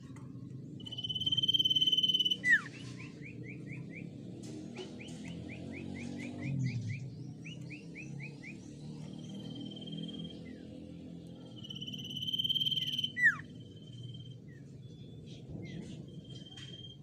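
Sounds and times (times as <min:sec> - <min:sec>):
bird singing trilled whistle: 0:00.8 - 0:04.1, 0:05.0 - 0:10.7, 0:11.4 - 0:17.0.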